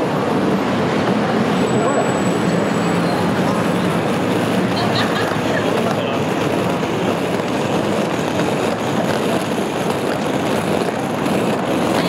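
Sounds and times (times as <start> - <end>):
passing vehicle traffic: 0.0 - 12.0.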